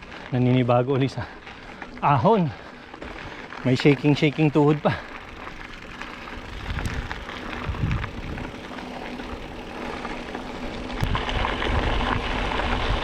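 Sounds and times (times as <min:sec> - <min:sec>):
mountain bike riding rumble: 0:00.0 - 0:13.0.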